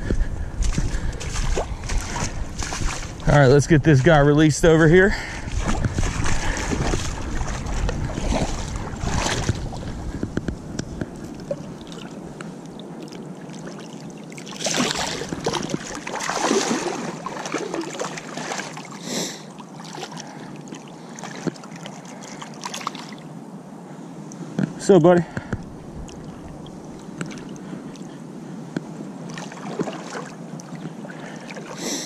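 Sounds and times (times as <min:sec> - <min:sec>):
river water sloshing and splashing: 0:00.0 - 0:23.4, 0:25.4 - 0:32.0.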